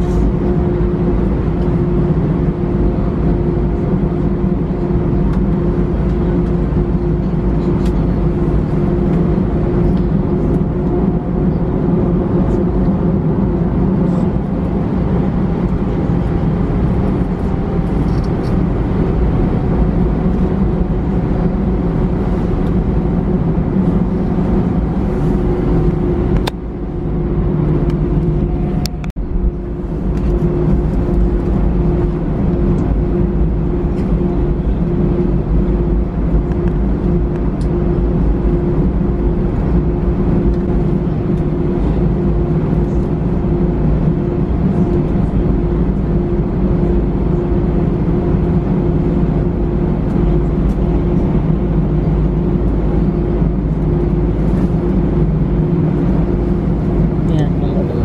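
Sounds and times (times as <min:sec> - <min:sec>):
jet engine drone: 0:00.0 - 0:58.0.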